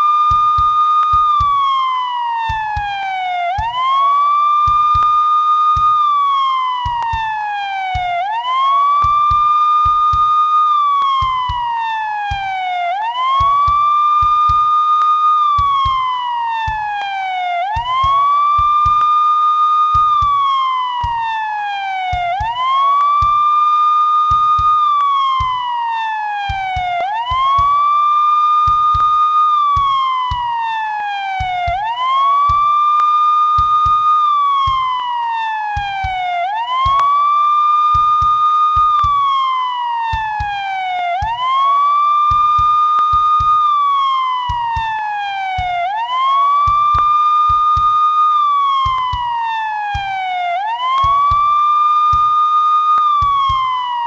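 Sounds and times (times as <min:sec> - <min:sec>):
police siren wailing: 0:00.0 - 0:54.0.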